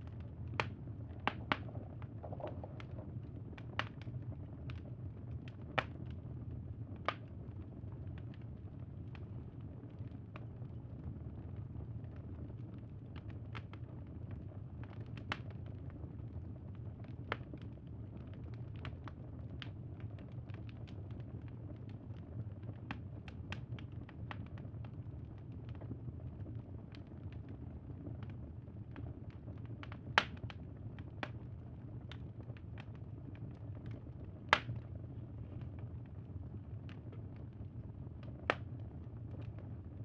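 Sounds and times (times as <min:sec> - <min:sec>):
campfire rumble: 0:00.0 - 0:40.0
fire crackles and pops: 0:00.0 - 0:40.0.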